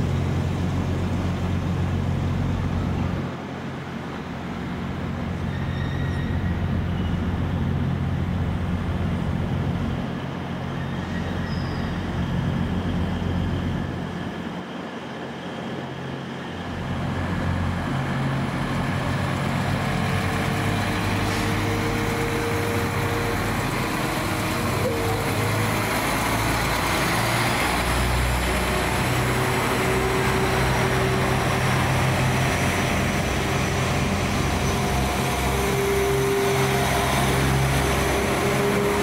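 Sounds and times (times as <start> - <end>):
diesel train engines rumbling: 0.0 - 39.0
passing train hum: 0.0 - 39.0.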